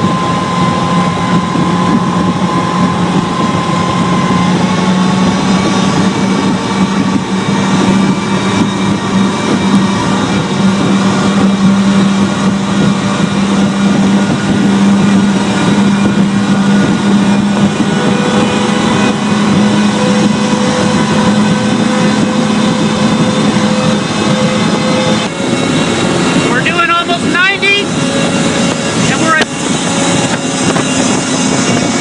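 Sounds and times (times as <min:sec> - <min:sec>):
speedboat engines droning: 0:00.0 - 0:32.0.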